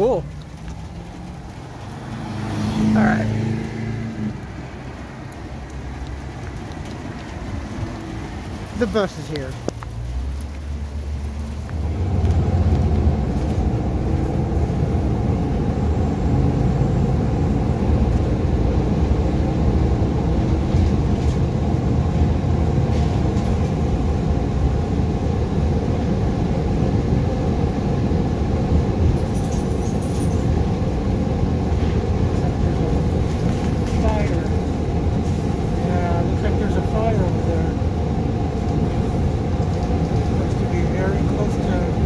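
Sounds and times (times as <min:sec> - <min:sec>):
bus engine rumble: 0:00.0 - 0:42.0.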